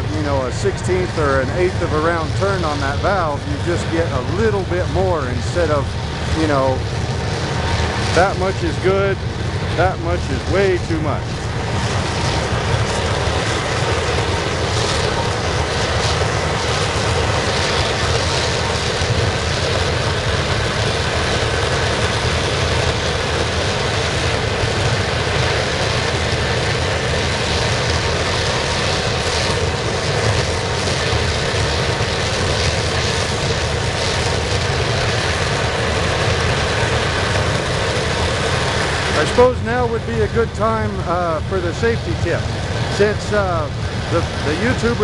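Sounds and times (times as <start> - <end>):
oil burner flame roaring: 0.0 - 45.0.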